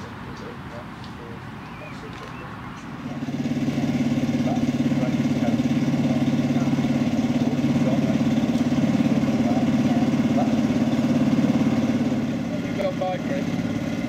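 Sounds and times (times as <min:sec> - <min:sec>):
diesel locomotive engine idling: 0:00.0 - 0:14.0.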